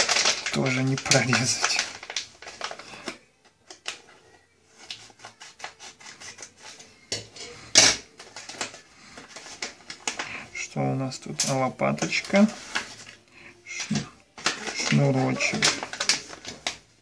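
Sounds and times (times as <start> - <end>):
plastic packaging clicks and crinkles: 0.0 - 17.0
plastic rustling: 0.0 - 17.0.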